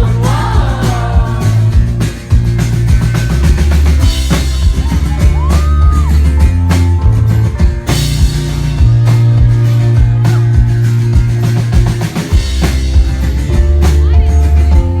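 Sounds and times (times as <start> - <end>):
bass guitar: 0.0 - 15.0
drum kit: 0.0 - 15.0
rock band playing live: 0.0 - 15.0.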